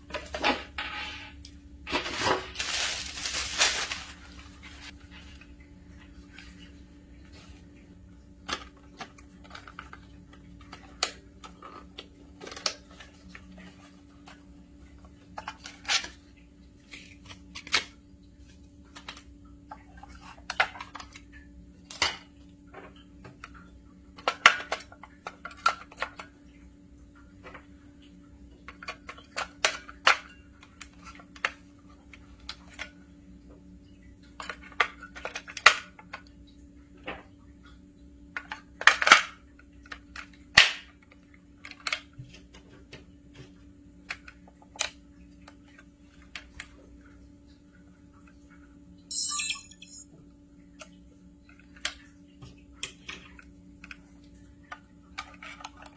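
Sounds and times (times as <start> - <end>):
low steady hum: 0.0 - 55.9.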